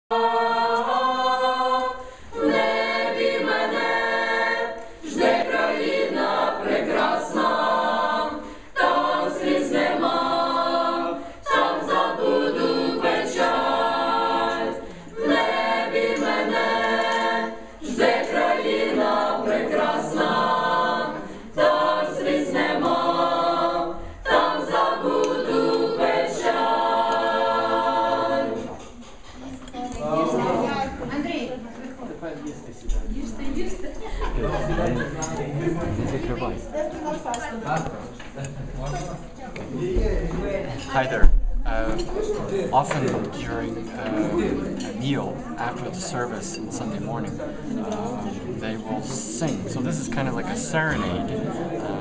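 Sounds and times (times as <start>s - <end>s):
choir singing a cappella: 0.0s - 31.9s, 33.1s - 52.0s.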